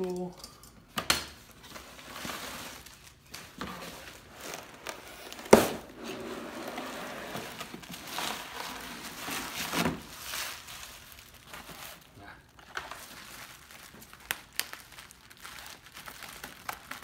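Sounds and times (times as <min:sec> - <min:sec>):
bubble wrap and cardboard rustling: 0:01.3 - 0:17.0.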